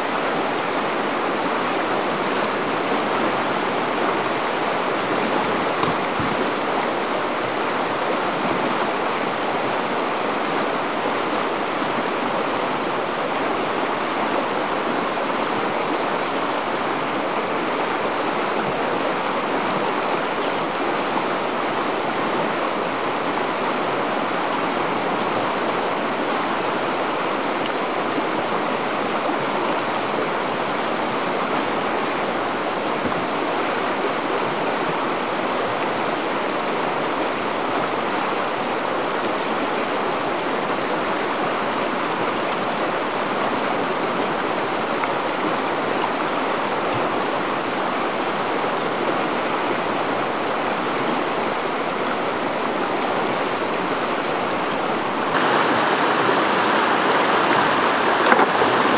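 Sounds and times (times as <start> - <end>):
whitewater rapids rushing: 0.0 - 58.9.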